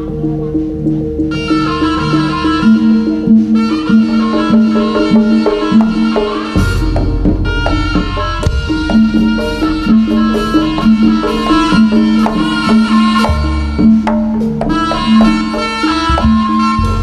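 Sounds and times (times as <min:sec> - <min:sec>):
cymbals: 0:00.0 - 0:17.0
drum strokes: 0:00.0 - 0:17.0
gongs: 0:00.0 - 0:17.0.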